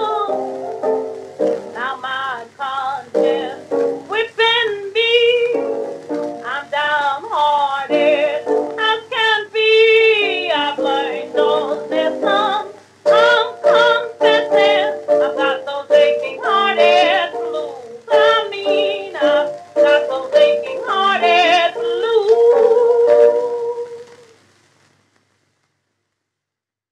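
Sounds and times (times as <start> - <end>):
woman singing with vibrato: 0.0 - 0.7, 1.5 - 24.4
piano accompaniment: 0.0 - 24.0.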